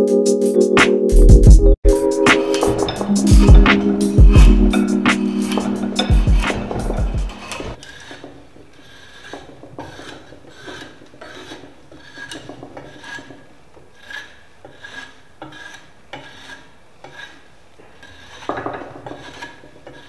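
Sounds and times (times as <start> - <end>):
file scraping wood: 2.1 - 20.0.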